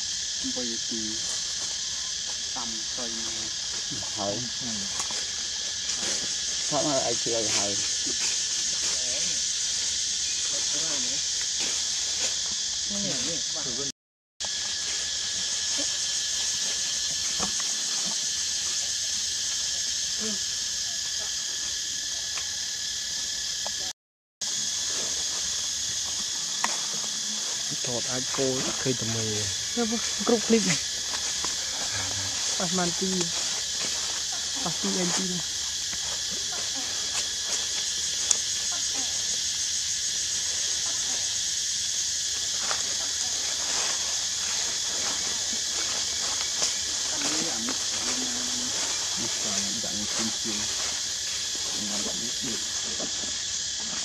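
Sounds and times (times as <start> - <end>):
forest insects droning: 0.0 - 54.0.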